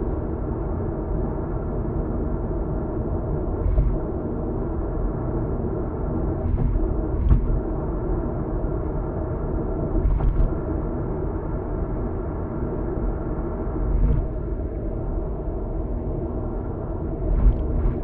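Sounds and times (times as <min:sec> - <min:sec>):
road and engine rumble inside car: 0:00.0 - 0:18.0.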